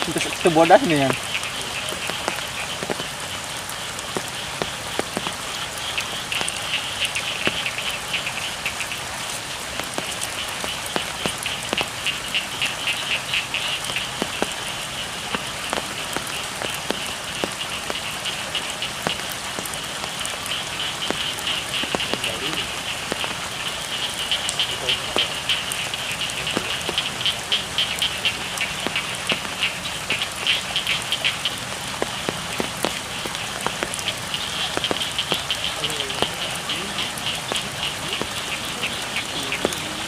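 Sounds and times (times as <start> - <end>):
frogs calling: 0.0 - 40.0
rain falling: 0.0 - 40.0.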